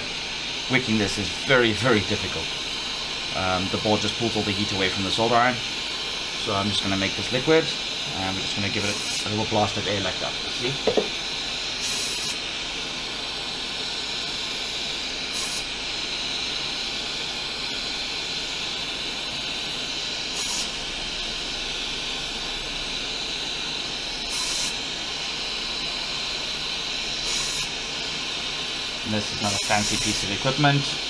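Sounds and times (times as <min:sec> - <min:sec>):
compressed air blasts: 0:00.0 - 0:31.0
hot air blower hissing: 0:00.0 - 0:31.0.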